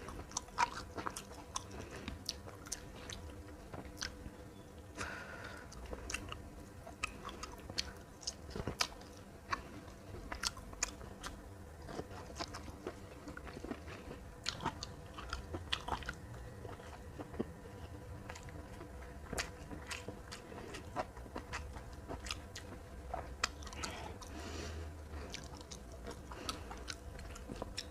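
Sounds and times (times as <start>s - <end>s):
person chewing food: 0.0s - 27.9s.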